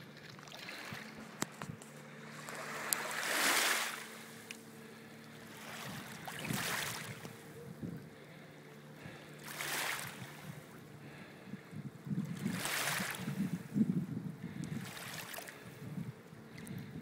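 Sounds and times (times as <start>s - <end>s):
small waves lapping: 0.0s - 13.8s, 14.4s - 17.0s.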